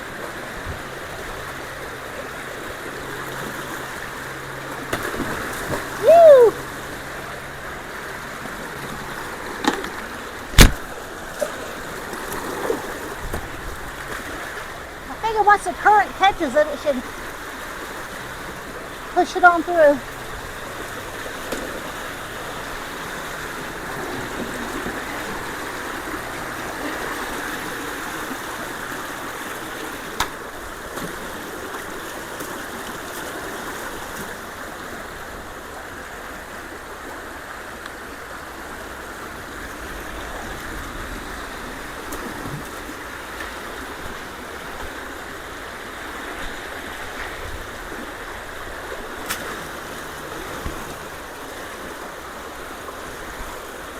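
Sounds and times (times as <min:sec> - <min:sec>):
creek water rushing: 0:00.0 - 0:53.9.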